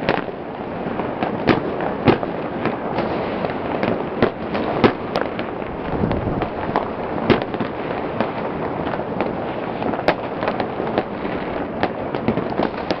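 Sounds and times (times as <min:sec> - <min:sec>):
distant fireworks bangs and crackling: 0:00.0 - 0:13.0.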